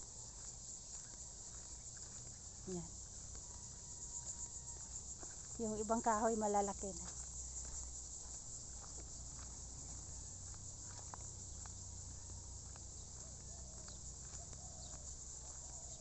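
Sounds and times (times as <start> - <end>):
footsteps on dirt path: 0.0 - 16.0
high-pitched insect chorus: 0.0 - 16.0.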